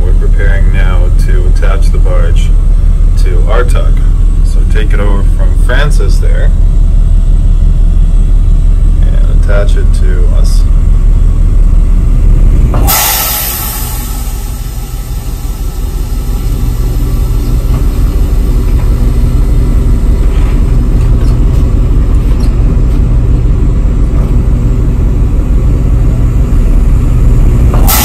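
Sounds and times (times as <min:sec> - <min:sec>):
diesel engine low drone: 0:00.0 - 0:28.0.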